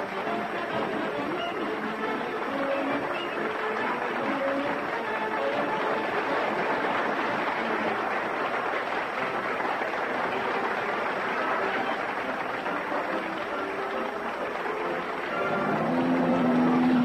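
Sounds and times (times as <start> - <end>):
crowd applauding: 0.0 - 17.0.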